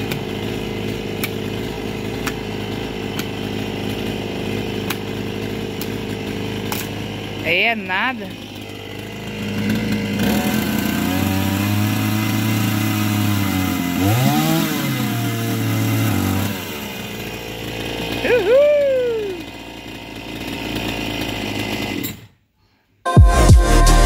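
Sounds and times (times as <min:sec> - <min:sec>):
chainsaw cutting stump: 0:00.0 - 0:22.4.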